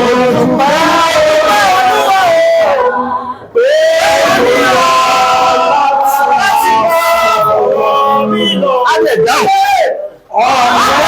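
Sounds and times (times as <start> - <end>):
voices singing a worship song: 0.0 - 11.0.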